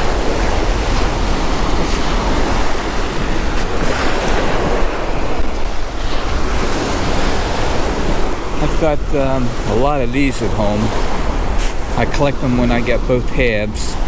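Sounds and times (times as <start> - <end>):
surf washing onto sandy beach: 0.0 - 14.0
wind buffeting microphone: 0.0 - 14.0.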